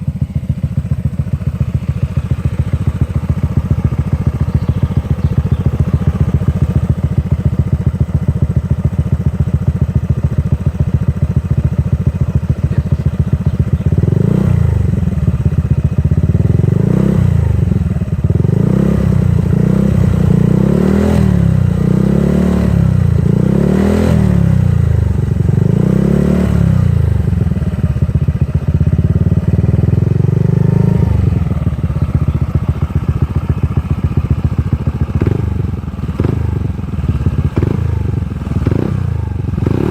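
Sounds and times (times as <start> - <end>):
scooter engine idling and revving: 0.0 - 39.9.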